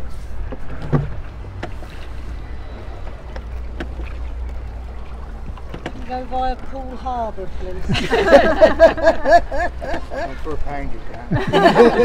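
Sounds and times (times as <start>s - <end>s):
oars knocking in rowlocks: 0.0s - 10.3s.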